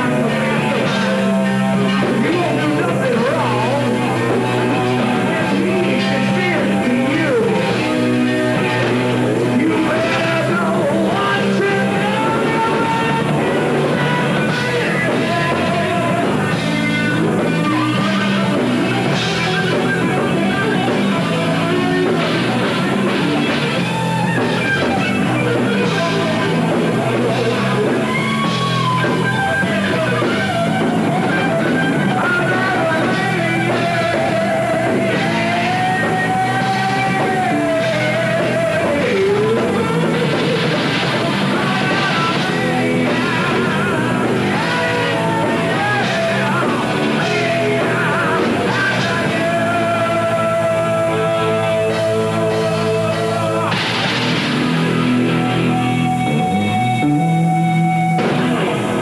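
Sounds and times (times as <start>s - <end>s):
heavy metal band playing: 0.0s - 59.0s
lead guitar solo: 0.0s - 59.0s
person singing: 0.0s - 59.0s.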